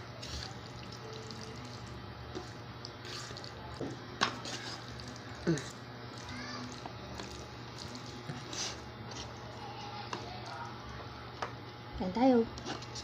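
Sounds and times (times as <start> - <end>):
wet squishing of stirred spaghetti: 0.0 - 11.0.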